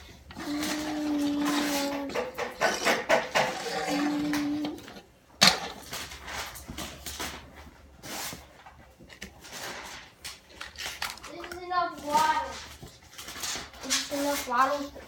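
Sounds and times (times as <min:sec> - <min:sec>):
handling noises and knocks: 0:00.0 - 0:03.7, 0:04.4 - 0:15.0.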